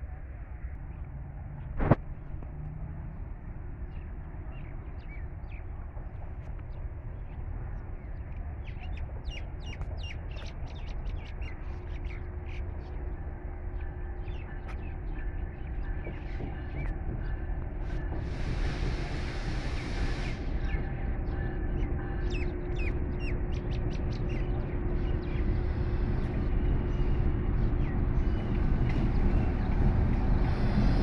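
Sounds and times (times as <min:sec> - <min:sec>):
distant diesel locomotive hum: 0:00.0 - 0:31.0.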